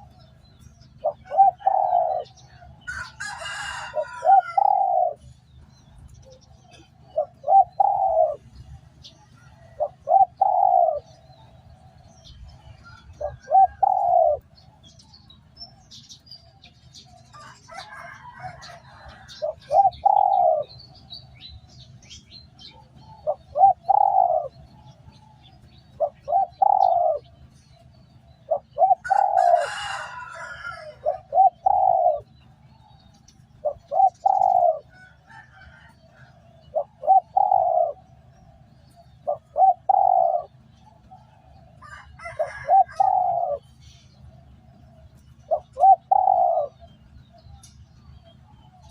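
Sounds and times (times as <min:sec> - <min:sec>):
dove cooing: 0:00.0 - 0:48.9
low steady hum: 0:00.0 - 0:48.9
small birds chirping: 0:00.0 - 0:48.9.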